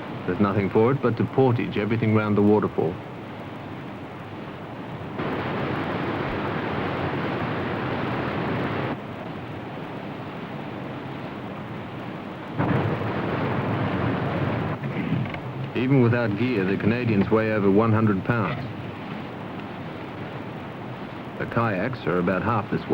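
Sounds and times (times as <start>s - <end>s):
waterfall roaring: 0.0s - 22.9s.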